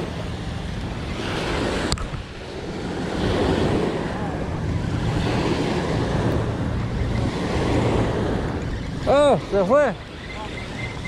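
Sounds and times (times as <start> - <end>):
small waves breaking on sand: 0.0 - 11.0
wind rumbling on microphone: 0.0 - 11.0.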